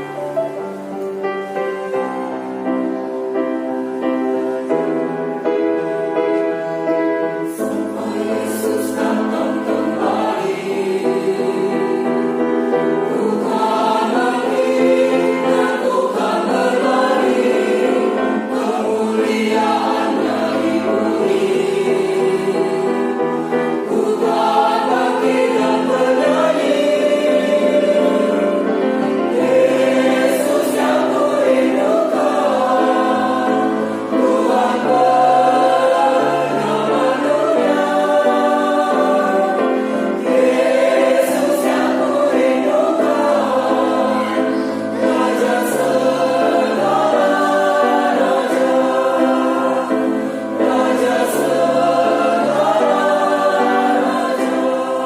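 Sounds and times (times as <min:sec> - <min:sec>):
choir singing long chords: 0:00.0 - 0:55.0.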